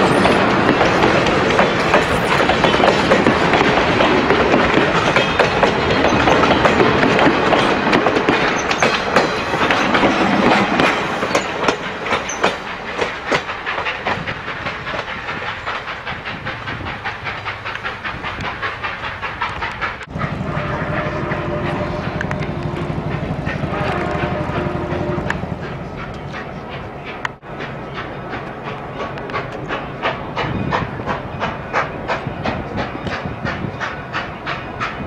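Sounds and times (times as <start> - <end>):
train wheels clicking over rail joints: 0.0 - 35.0.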